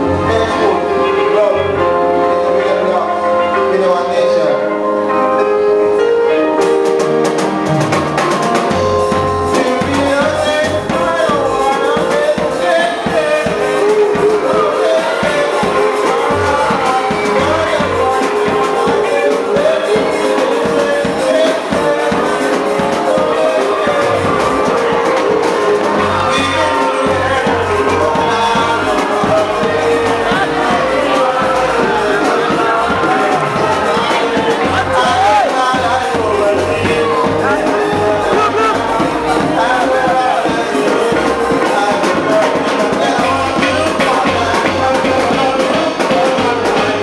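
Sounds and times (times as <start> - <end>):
man singing into a microphone: 0.0 - 6.4, 8.6 - 47.0
electric guitar: 0.0 - 47.0
keyboards: 0.0 - 47.0
hand drums: 7.2 - 47.0
steady bass beat: 7.8 - 47.0.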